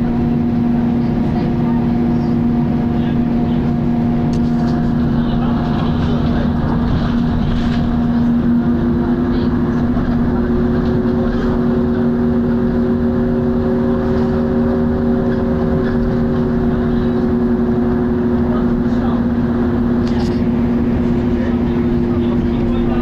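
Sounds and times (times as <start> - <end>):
bus diesel engine drone: 0.0 - 23.0.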